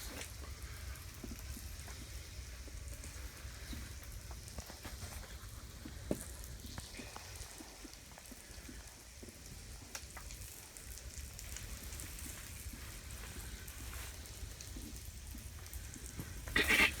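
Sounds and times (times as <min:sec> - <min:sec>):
fish frying crackle: 0:00.0 - 0:17.0.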